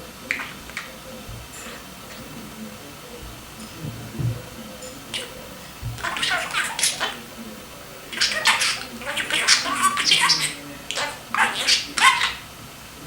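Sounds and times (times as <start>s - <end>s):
budgerigar chattering: 0.3s - 3.5s, 4.4s - 12.5s.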